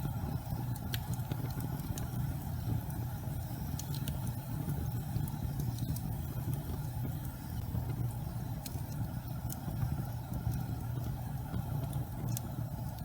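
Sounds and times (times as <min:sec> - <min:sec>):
fire burning with low rumble: 0:00.0 - 0:13.0
fire crackles and pops: 0:00.0 - 0:13.0.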